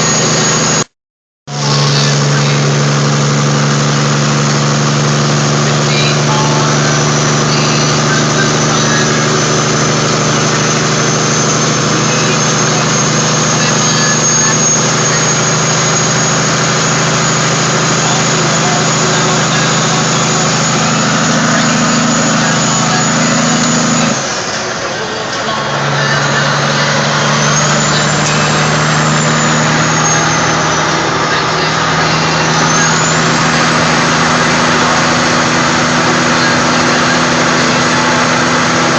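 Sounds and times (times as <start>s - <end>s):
diesel truck engine running: 0.0s - 0.9s, 1.5s - 38.9s.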